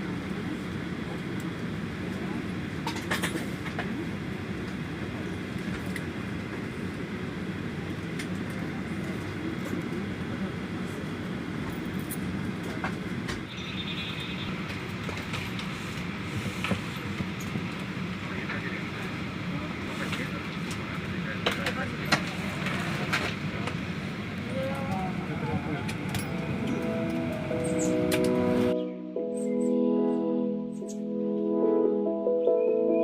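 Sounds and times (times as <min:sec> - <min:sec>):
bus rumbling and rattling: 0:00.0 - 0:28.8.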